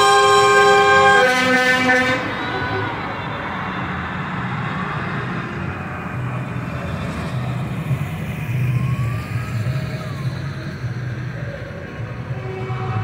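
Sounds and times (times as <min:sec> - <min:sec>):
tractor engines rumbling: 0:00.0 - 0:13.0.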